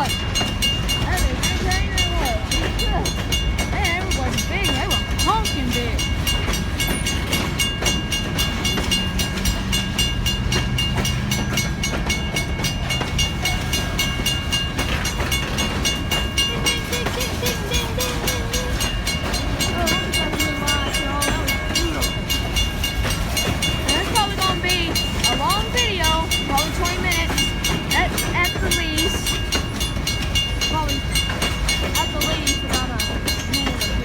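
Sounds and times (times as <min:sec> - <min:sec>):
crossing bell ringing: 0:00.0 - 0:34.0.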